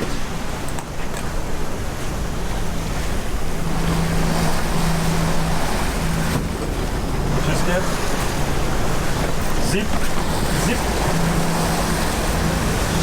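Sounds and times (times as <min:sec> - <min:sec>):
sea noise: 0:00.0 - 0:13.0
steady low hum: 0:01.4 - 0:13.0.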